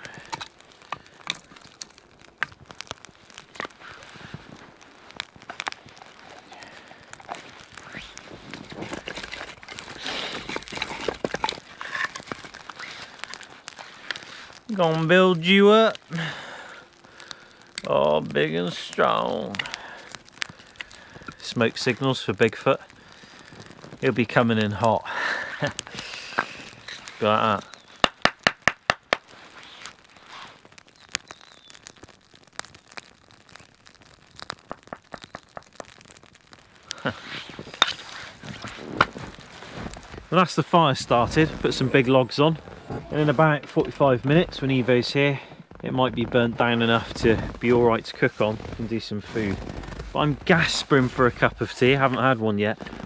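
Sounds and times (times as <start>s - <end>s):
firewood knocking and clattering: 0.0s - 29.4s, 30.1s - 52.9s
campfire crackling and popping: 0.0s - 53.0s
rustling: 0.0s - 53.0s.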